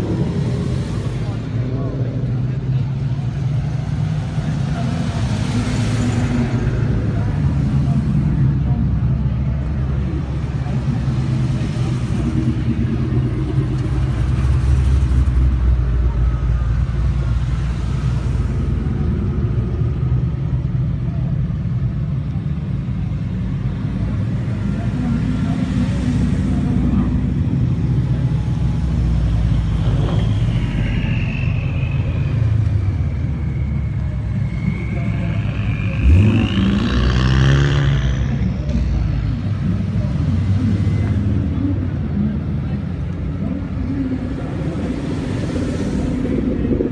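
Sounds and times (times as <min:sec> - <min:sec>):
car engine deep rumble: 0:00.0 - 0:46.9.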